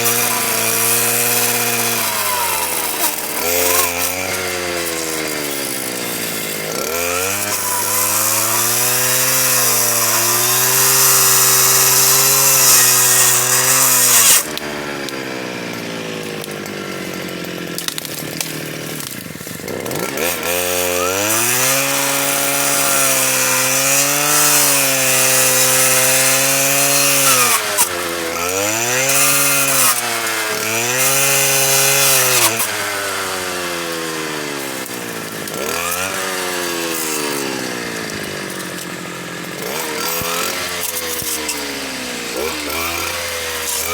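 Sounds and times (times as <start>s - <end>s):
power saw engine cutting: 0.0s - 43.9s.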